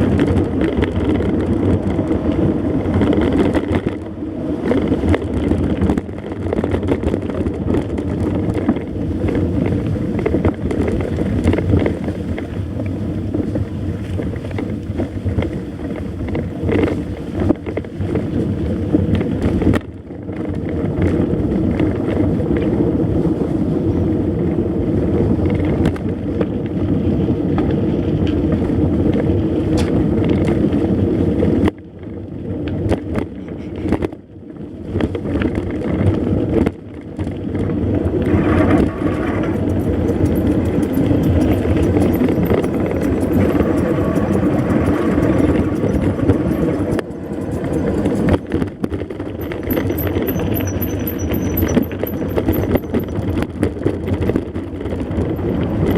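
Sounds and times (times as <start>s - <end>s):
tyre and vehicle noise: 0.0s - 55.9s
wind on microphone: 0.0s - 55.9s.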